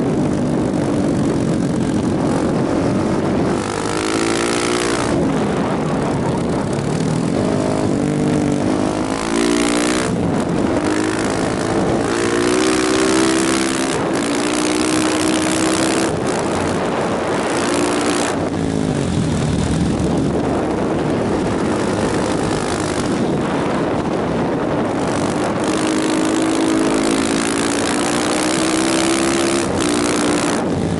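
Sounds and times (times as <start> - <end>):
motorcycle engine revving: 0.0 - 30.9
wind rushing: 0.0 - 30.9.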